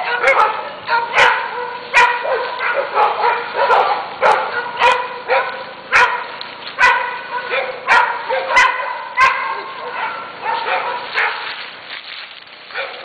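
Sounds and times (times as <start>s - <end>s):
dogs barking: 0.0s - 11.6s, 12.7s - 13.0s.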